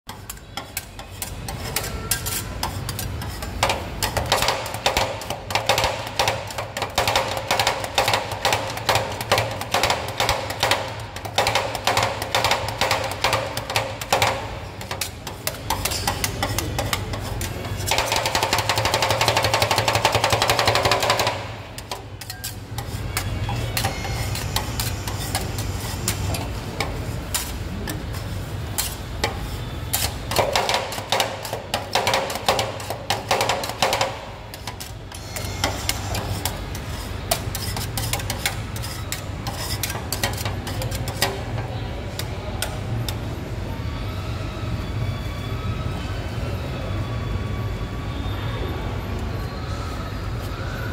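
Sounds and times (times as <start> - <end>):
metal spatulas chopping on metal: 0.1 - 42.8.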